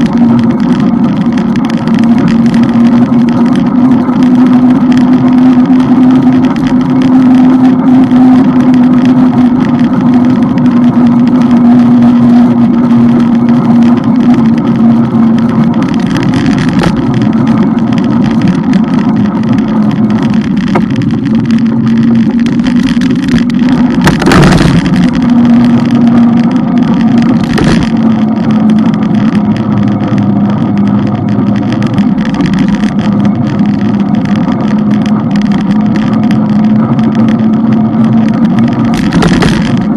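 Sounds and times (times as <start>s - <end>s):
loud rush of noise: 0.0s - 39.9s
motorbike engine droning: 0.0s - 39.9s
wind noise: 0.0s - 39.9s.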